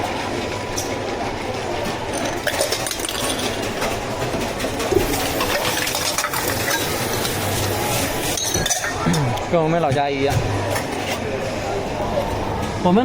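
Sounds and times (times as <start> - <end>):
clinks and rattles of drink-making: 0.0 - 13.0
shop background noise: 0.0 - 13.0.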